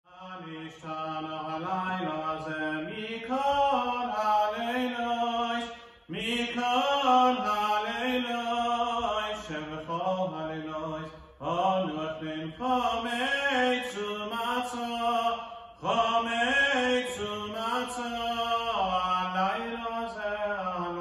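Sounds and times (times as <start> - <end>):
man chanting: 0.1 - 21.0.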